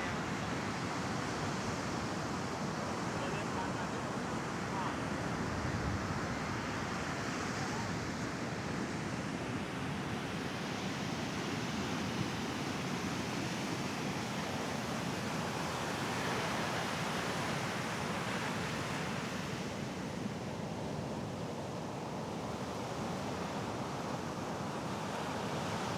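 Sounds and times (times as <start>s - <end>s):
sea waves washing onto beach: 0.0s - 25.9s.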